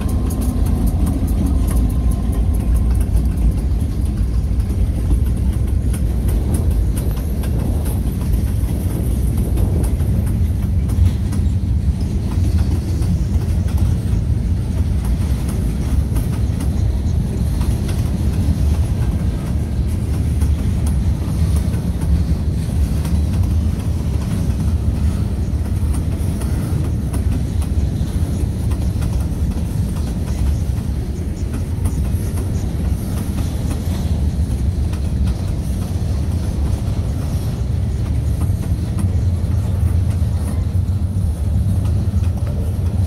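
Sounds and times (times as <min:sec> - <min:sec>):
train wheels rumbling on rail: 0:00.0 - 0:43.0
wheels clicking over rail joints: 0:00.0 - 0:43.0.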